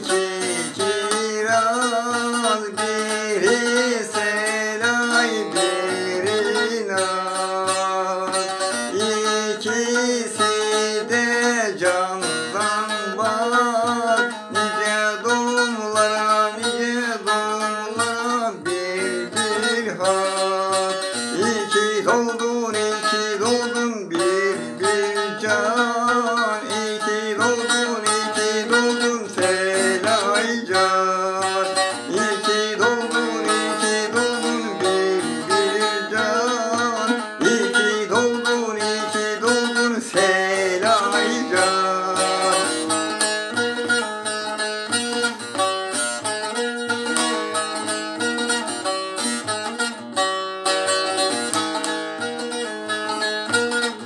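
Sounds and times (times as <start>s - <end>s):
man singing: 0.0s - 45.4s
long-necked lute strumming: 0.0s - 54.0s.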